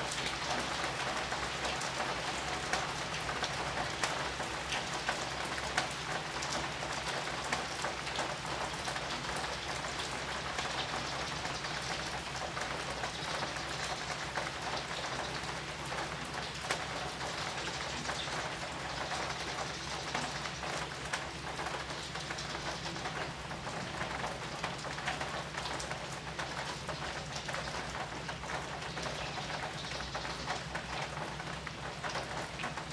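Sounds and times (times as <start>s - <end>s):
heavy rain on leaves: 0.0s - 32.9s.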